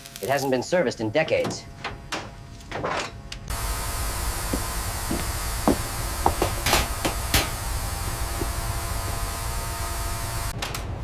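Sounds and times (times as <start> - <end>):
mechanical hum and hiss: 0.0 - 11.0.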